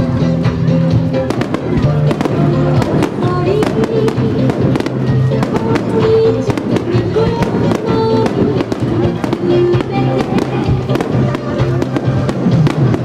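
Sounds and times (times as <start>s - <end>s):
music with held notes: 0.0s - 13.0s
fireworks bursting: 1.1s - 13.0s.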